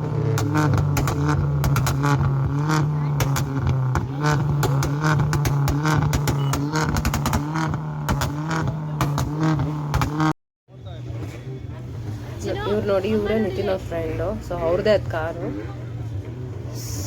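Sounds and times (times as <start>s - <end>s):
crowd voices: 0.0s - 7.6s, 8.3s - 17.0s
vehicle engines droning: 0.0s - 17.0s.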